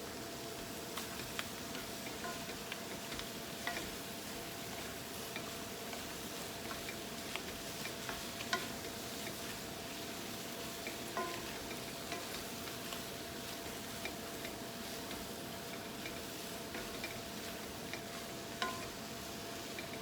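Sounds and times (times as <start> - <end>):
food sizzling in a frying pan: 0.0 - 20.0
utensil clicking while stirring: 1.1 - 19.1, 19.7 - 20.0.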